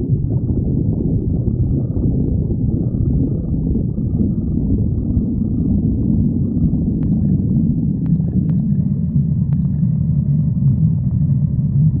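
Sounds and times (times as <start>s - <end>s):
stomach growling: 0.0s - 12.0s.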